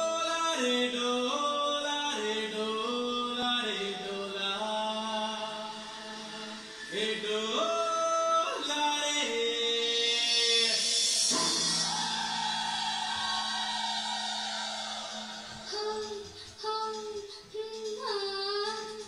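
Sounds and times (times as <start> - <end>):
voice singing ornamented notes: 1.0 - 19.0.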